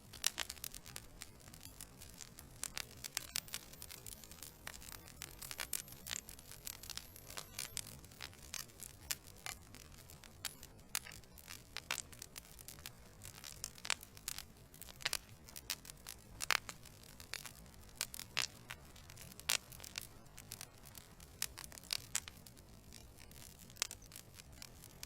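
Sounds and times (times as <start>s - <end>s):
logs crackling and popping: 0.0s - 25.0s.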